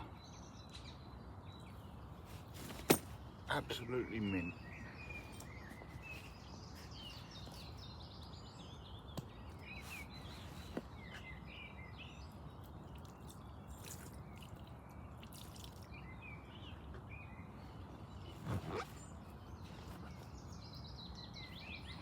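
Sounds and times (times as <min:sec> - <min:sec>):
outdoor background hiss: 0:00.0 - 0:22.0
small birds chirping: 0:00.0 - 0:22.0.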